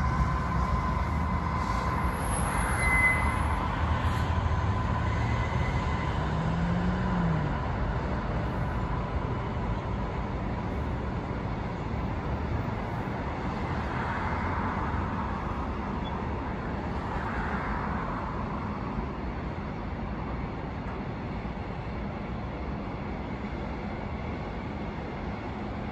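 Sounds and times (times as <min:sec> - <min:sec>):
road traffic noise: 0:00.0 - 0:25.9
train rumble and wheel whine: 0:00.0 - 0:25.9.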